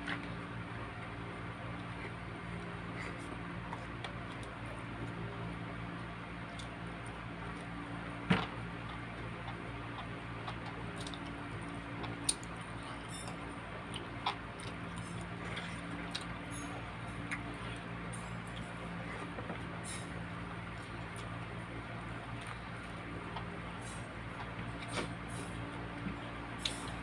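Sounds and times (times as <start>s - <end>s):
steady low hum: 0.0s - 27.0s
person chewing food: 1.6s - 27.0s.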